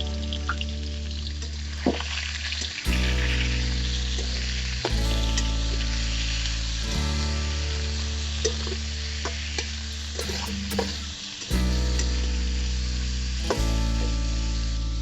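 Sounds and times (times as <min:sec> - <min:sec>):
background music with low notes: 0:00.0 - 0:15.0.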